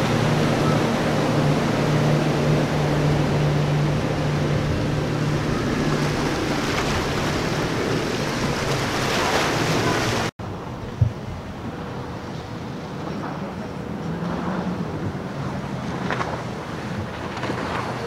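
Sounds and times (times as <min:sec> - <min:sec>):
boat engine drone: 0:00.0 - 0:18.0
water spray and wind rushing: 0:00.0 - 0:18.0.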